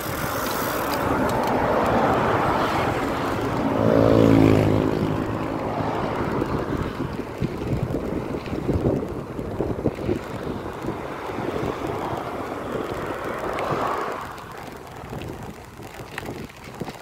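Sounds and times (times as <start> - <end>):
vehicle passing: 0.0 - 16.3
road traffic: 0.0 - 17.0
wind buffeting microphone: 0.0 - 17.0.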